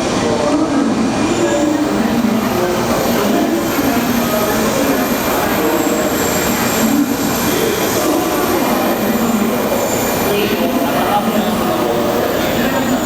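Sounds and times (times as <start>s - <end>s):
train wheels rushing: 0.0s - 13.0s.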